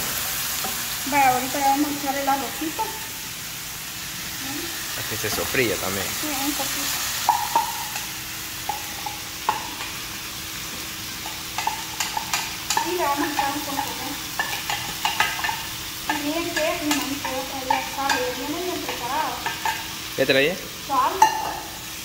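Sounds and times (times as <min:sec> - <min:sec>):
rice sizzling in oil: 0:00.0 - 0:22.0.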